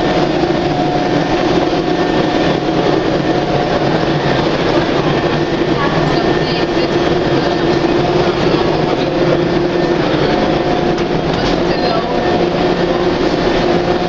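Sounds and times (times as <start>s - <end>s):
passenger train rumble: 0.0s - 14.0s.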